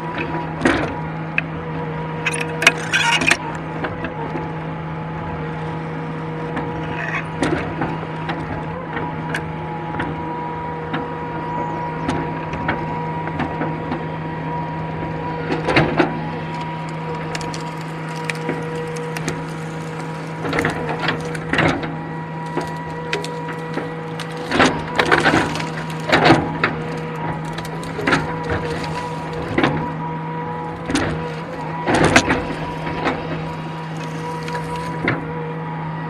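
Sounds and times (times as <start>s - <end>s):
wood crackling and splintering: 0.0s - 11.3s, 11.9s - 35.6s
excavator engine humming: 0.0s - 36.0s.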